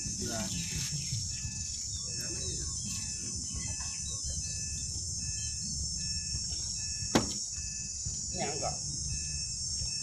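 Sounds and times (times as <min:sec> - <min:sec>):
bird chirps: 0:00.0 - 0:09.4
insects chorus: 0:00.0 - 0:10.0
two-note peep: 0:00.2 - 0:10.0.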